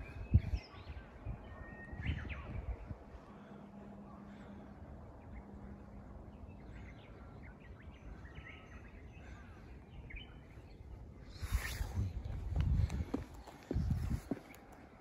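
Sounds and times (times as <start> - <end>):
faint birds chirping: 0.0 - 15.0
low outdoor rumble: 0.0 - 15.0.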